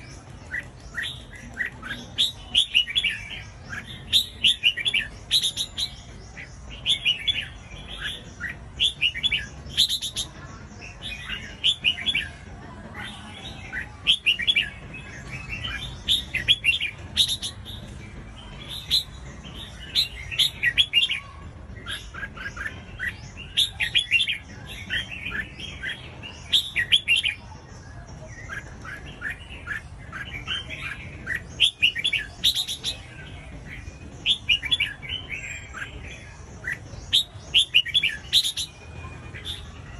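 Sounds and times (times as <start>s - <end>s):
bulbul chirping song: 0.0s - 12.5s, 13.2s - 39.9s.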